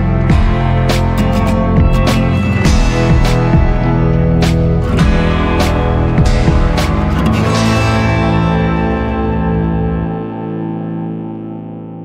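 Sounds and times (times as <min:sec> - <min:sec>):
upbeat music with guitar and beat: 0:00.0 - 0:12.0.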